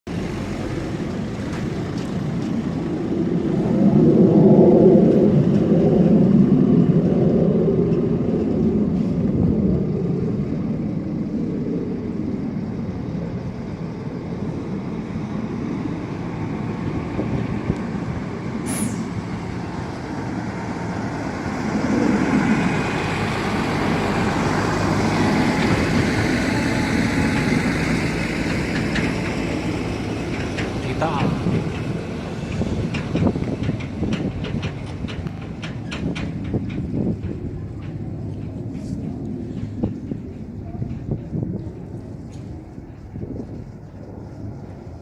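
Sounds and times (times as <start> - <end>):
heavy road traffic rumble: 0.0 - 45.0.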